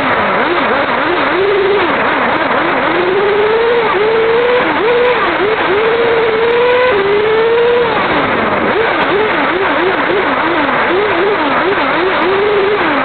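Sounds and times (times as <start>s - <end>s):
model car motor revving: 0.0s - 13.0s
steady rushing noise: 0.0s - 13.0s.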